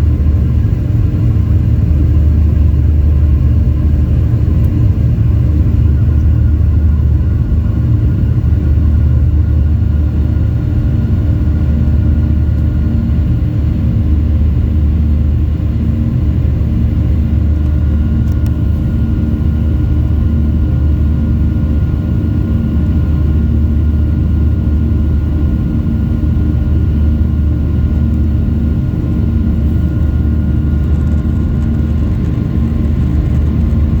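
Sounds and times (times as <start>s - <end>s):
airplane engines rumbling: 0.0s - 34.0s.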